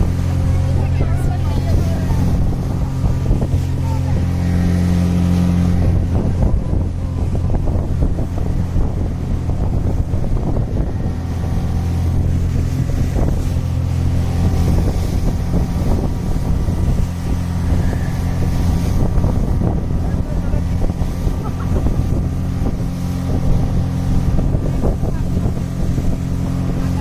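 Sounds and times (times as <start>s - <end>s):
speedboat engine running: 0.0s - 27.0s
wind noise on microphone: 0.0s - 27.0s.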